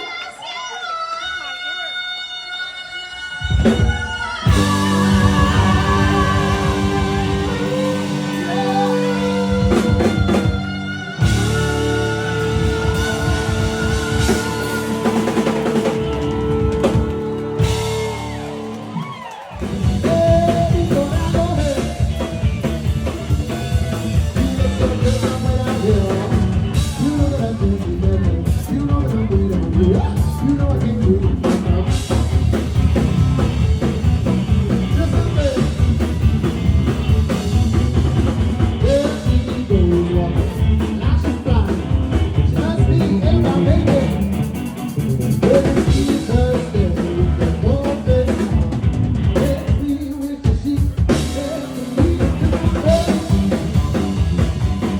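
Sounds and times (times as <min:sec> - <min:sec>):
person singing: 0:00.0 - 0:32.3, 0:38.7 - 0:48.7, 0:49.3 - 0:54.9
rock band playing: 0:03.2 - 0:54.9
drum kit beat: 0:03.5 - 0:54.9.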